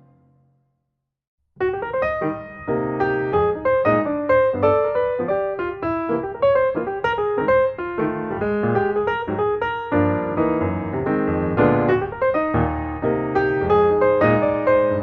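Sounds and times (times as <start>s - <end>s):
piano music: 1.6s - 15.0s.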